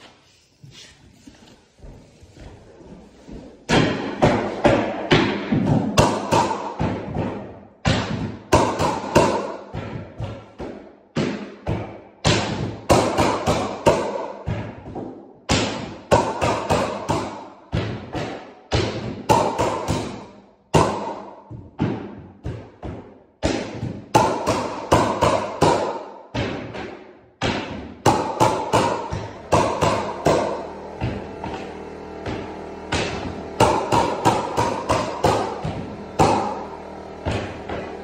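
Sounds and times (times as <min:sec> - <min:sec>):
mallet striking flooring nailer: 0:03.7 - 0:38.0.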